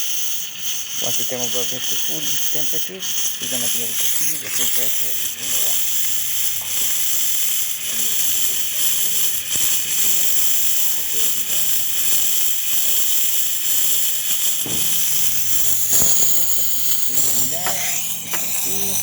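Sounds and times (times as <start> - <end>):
steam wand hissing: 0.0 - 19.0.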